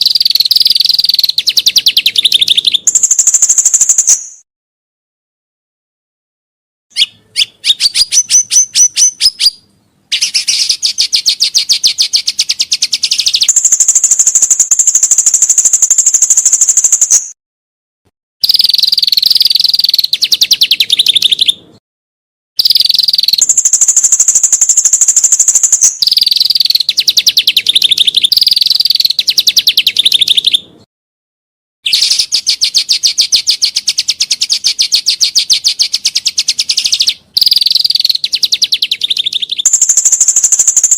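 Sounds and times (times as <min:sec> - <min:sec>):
songbird rapid repeated notes: 0:00.0 - 0:04.4, 0:07.0 - 0:17.4, 0:18.4 - 0:21.7, 0:22.6 - 0:30.8, 0:31.9 - 0:40.9.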